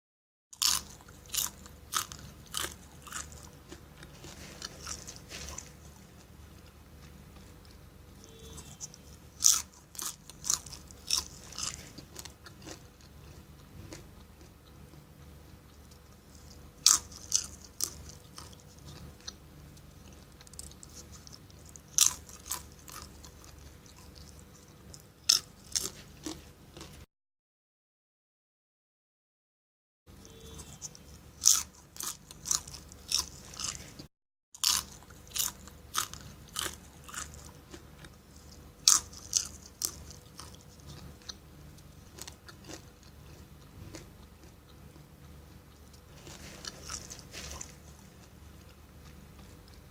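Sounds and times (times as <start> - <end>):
person crunching popcorn: 0.6 - 27.0, 30.5 - 49.9
quiet chewing: 0.6 - 27.1, 30.3 - 49.9.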